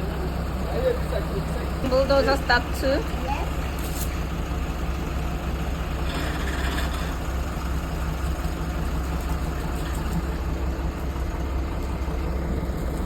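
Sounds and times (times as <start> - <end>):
heavy machinery engine humming: 0.0 - 13.0.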